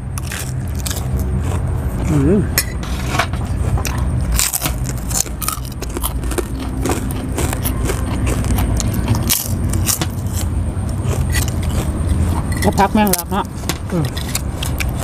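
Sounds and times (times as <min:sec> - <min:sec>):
steady low rumble: 0:00.0 - 0:15.0
chewing crisp food: 0:00.1 - 0:02.4, 0:03.4 - 0:15.0.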